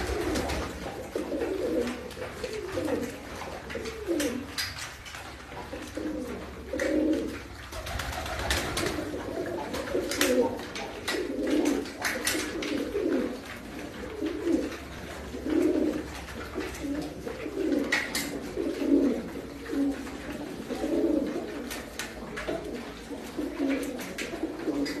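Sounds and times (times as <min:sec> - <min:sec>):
pigeons cooing: 0:00.0 - 0:04.9, 0:05.5 - 0:25.0.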